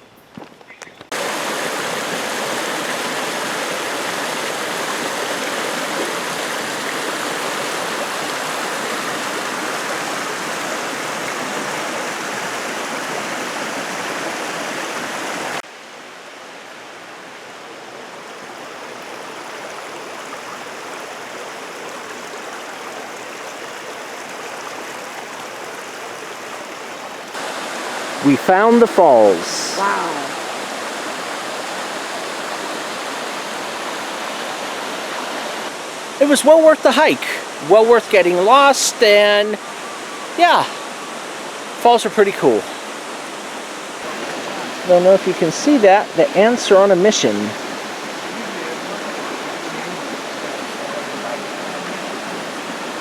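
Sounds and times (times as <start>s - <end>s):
waterfall rushing: 1.1s - 53.0s.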